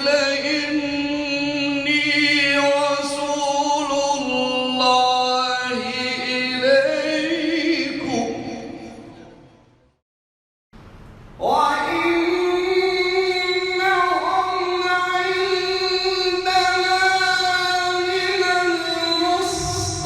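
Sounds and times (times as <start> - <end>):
man chanting melodically: 0.0 - 9.3, 11.4 - 20.0.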